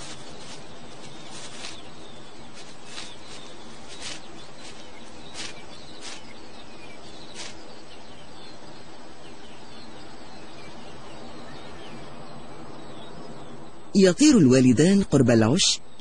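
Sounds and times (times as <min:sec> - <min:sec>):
birds chirping: 0:00.0 - 0:16.0
steady outdoor hiss: 0:00.0 - 0:16.0.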